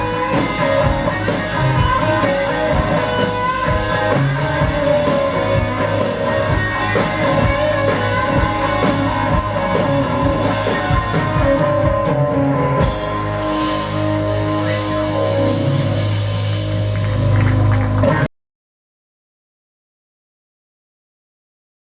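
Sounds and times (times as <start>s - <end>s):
blues-rock band playing: 0.0s - 18.3s.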